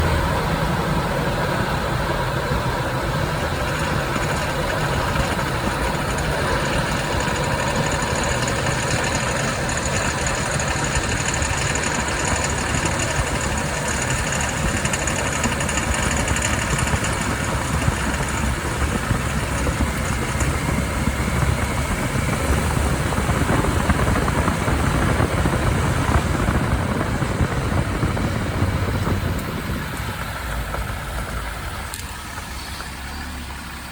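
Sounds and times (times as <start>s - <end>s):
car engine pulling at low speed: 0.0s - 33.9s.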